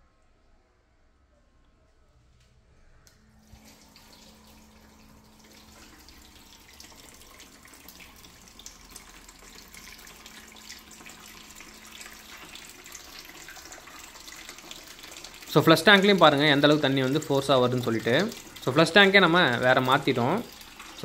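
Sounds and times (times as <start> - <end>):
water filling toilet cistern: 3.4 - 21.0.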